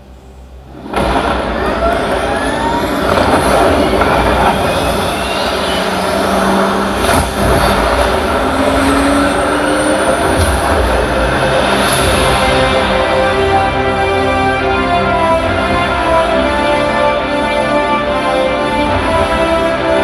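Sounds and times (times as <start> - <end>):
vehicle roar sound effect: 0.6 - 20.0.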